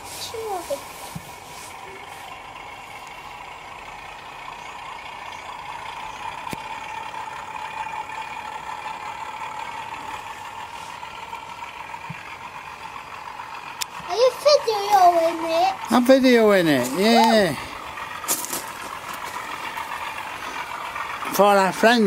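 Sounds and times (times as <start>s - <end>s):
wheels hissing on rail: 0.0s - 22.0s.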